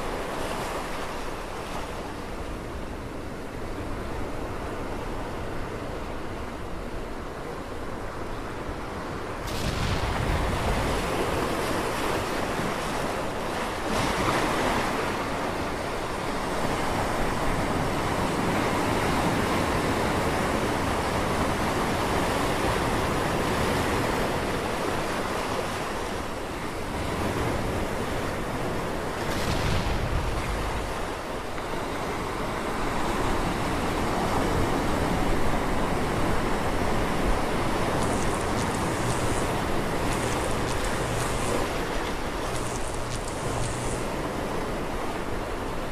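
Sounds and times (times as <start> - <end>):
surf washing over rocks: 0.0 - 45.9
waves crashing: 8.0 - 45.9.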